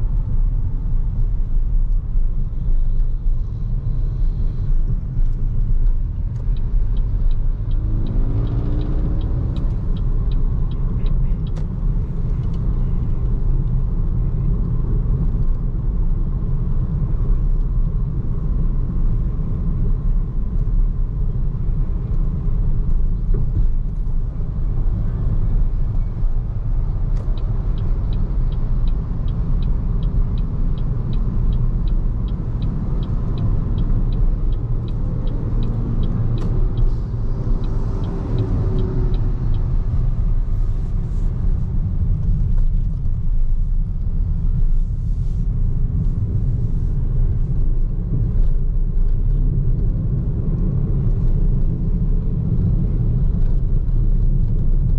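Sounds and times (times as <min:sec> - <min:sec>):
road and tyre rumble: 0:00.0 - 0:54.9.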